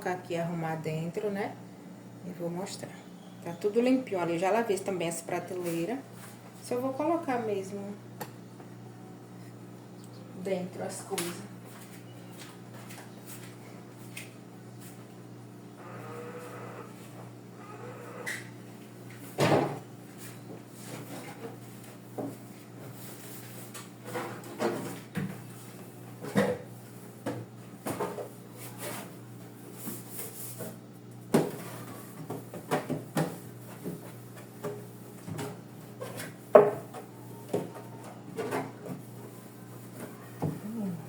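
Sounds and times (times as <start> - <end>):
refrigerator hum: 0.0 - 41.0.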